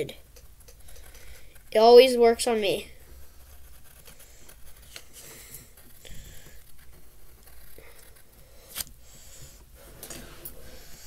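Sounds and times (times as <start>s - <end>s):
pencil scratching on paper: 0.6s - 11.0s.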